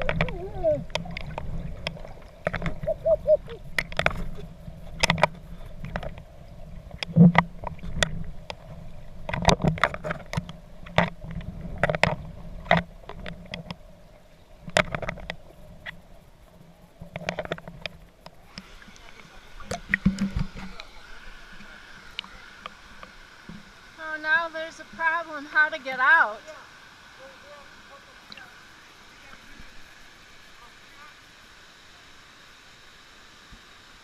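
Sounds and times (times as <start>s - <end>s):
water splashing and sloshing: 0.0s - 30.4s
low water rush: 0.0s - 34.0s.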